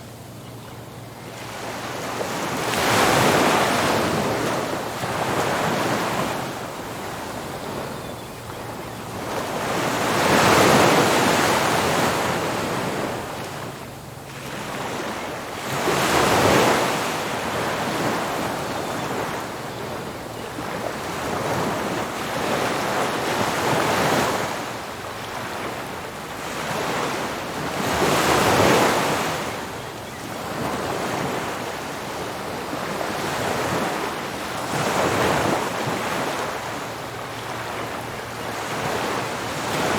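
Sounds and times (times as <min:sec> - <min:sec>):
ocean waves breaking: 0:01.2 - 0:39.9.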